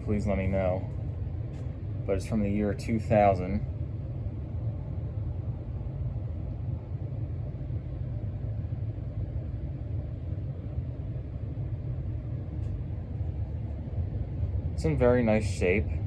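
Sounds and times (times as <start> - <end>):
ceiling fan running: 0.0 - 16.0.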